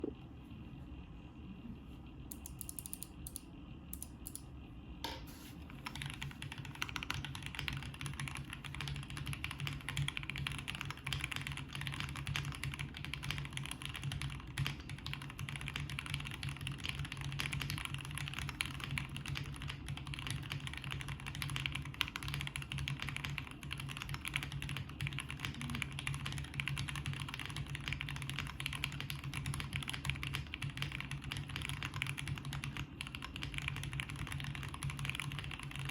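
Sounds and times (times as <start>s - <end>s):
typing on mechanical keyboard: 5.8s - 35.9s.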